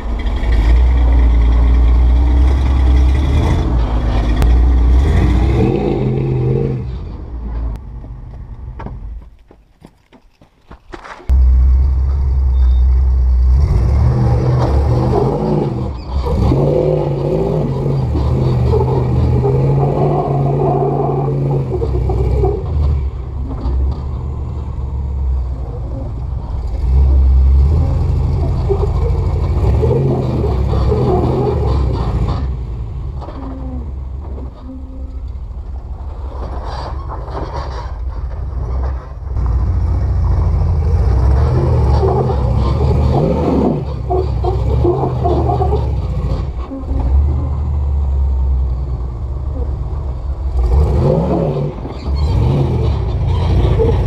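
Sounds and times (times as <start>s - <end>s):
engine idling and revving: 0.0s - 9.3s, 11.3s - 54.0s.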